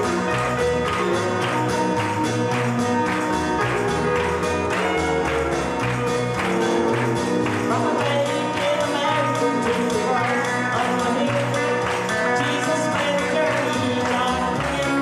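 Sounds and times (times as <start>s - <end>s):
instrumental gospel music: 0.0s - 15.0s.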